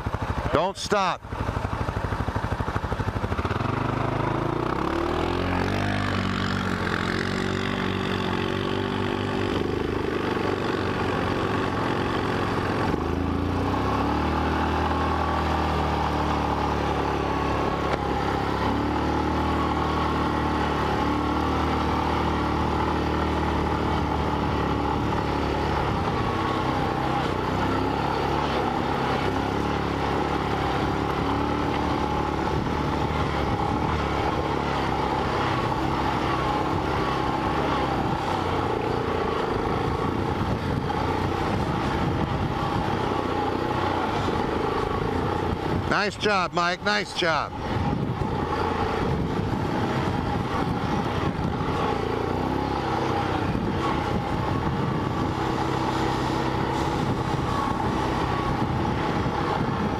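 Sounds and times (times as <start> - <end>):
atv engine running hard: 0.0 - 59.9.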